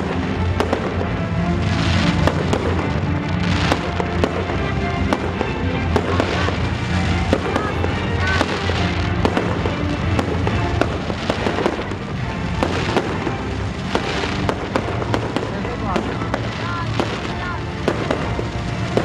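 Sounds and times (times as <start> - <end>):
fireworks bangs and crackles: 0.0 - 19.0
music with steady bass line: 0.0 - 19.0.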